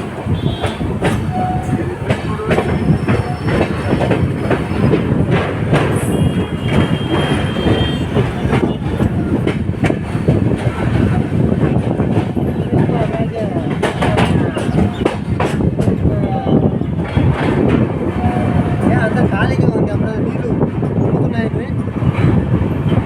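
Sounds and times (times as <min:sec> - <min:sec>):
train rumbling over bridge: 0:00.0 - 0:23.0.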